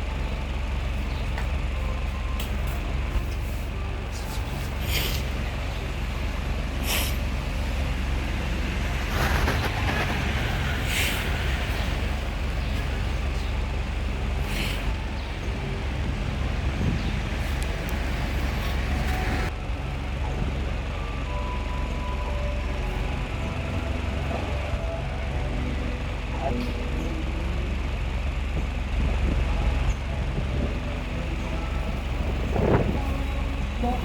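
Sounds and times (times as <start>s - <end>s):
electric fan airflow rumble: 0.0s - 34.0s.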